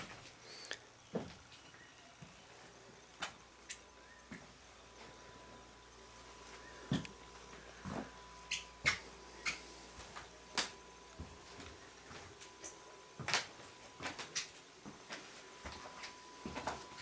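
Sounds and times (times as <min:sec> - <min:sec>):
faint steady high tone: 0:00.5 - 0:17.0.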